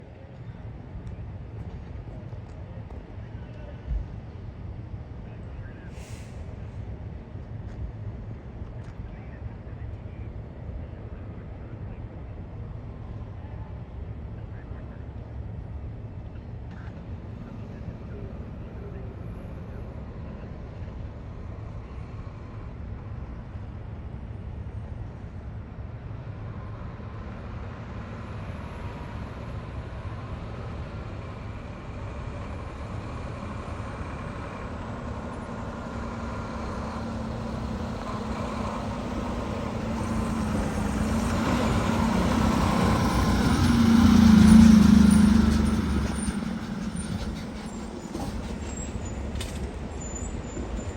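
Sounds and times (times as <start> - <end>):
diesel engine rumble: 0.0 - 50.9.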